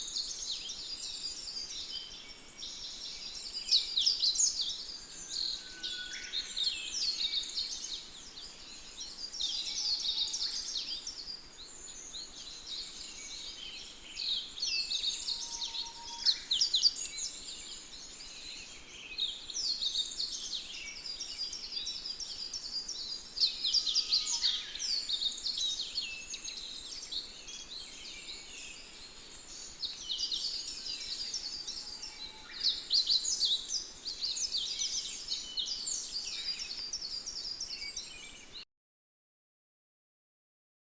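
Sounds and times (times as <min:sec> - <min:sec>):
small birds chirping and trilling: 0:00.0 - 0:38.6.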